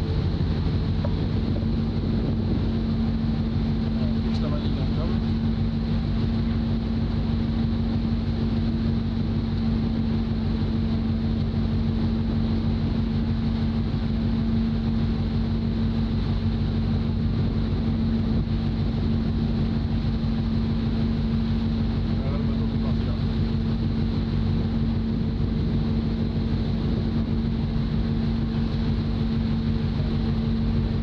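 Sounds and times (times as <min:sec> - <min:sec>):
boat engines humming: 0:00.0 - 0:31.0.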